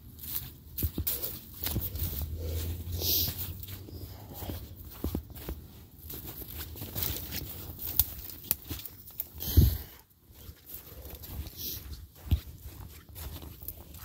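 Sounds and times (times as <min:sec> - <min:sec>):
footsteps on dirt trail: 0:00.0 - 0:14.0.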